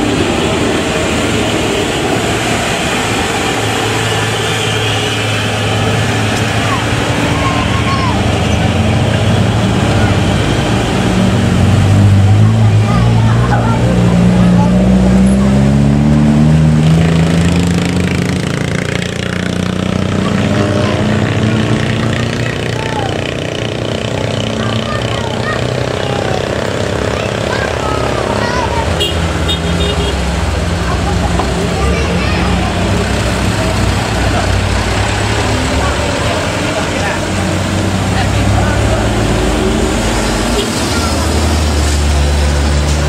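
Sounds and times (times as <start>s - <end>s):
diesel truck engine droning: 0.0s - 43.0s
road and traffic noise: 0.0s - 43.0s.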